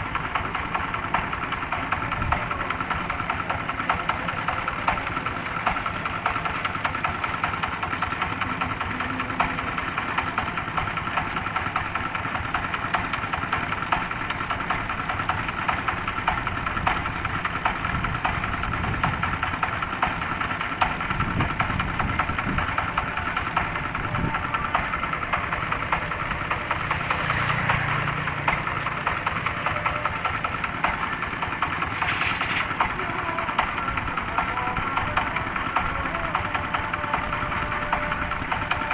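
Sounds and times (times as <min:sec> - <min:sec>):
diesel engine running: 0:00.0 - 0:38.9
threshing machine rattle: 0:00.0 - 0:38.9.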